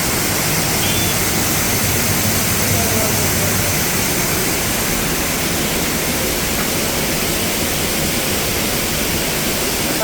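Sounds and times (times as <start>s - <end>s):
water pouring down waterfall: 0.0s - 10.0s.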